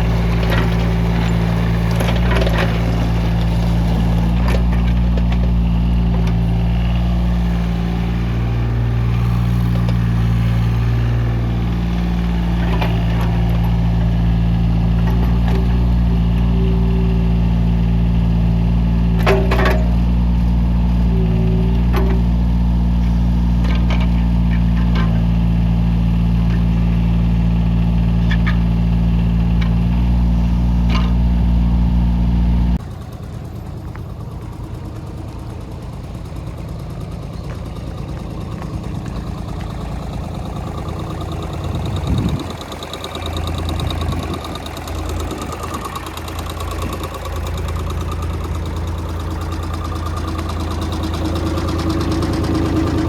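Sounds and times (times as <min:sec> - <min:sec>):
mini excavator diesel engine: 0:00.0 - 0:53.0.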